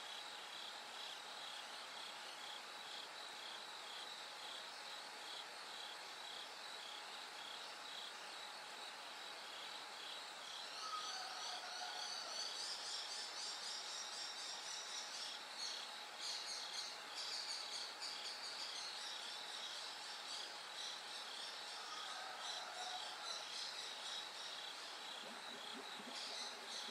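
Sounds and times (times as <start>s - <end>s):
crickets chirping: 0.0s - 26.9s
insects trilling: 0.0s - 26.9s.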